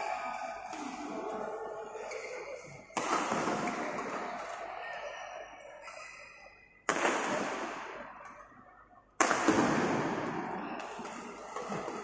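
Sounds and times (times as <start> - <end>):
sharp bangs echoing in a hall: 0.0 - 12.0.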